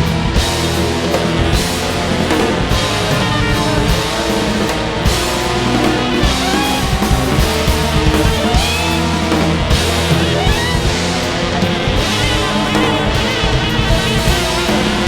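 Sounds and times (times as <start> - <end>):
rock music with distorted guitars: 0.0 - 15.0.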